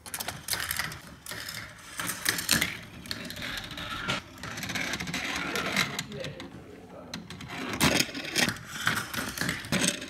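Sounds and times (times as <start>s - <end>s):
marbles rolling on track: 0.0s - 6.5s, 7.2s - 10.0s.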